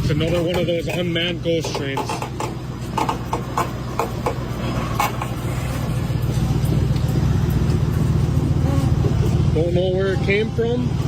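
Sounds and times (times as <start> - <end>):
train rumbling on track: 0.0 - 9.7.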